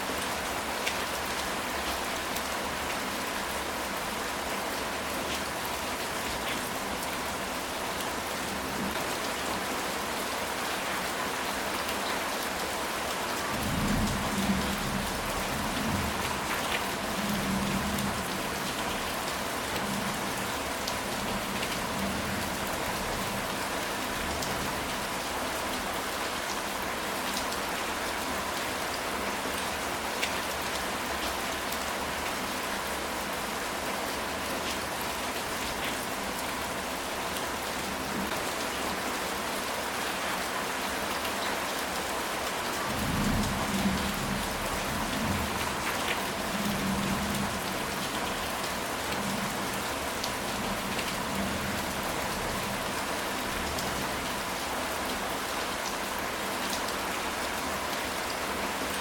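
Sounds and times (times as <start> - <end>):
rain on a tile roof: 0.0 - 59.0.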